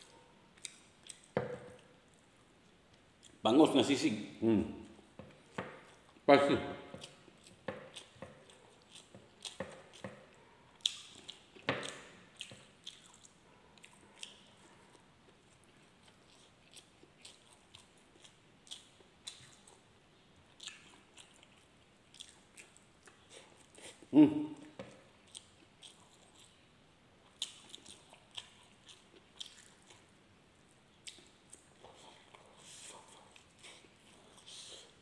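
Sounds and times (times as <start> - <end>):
chewing and wet mouth noises: 0.0 - 3.4, 4.8 - 35.0.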